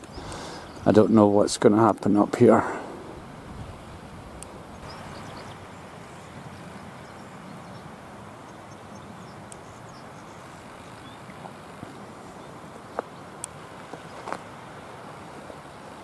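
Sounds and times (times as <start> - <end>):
outdoor background rush: 0.0 - 16.0.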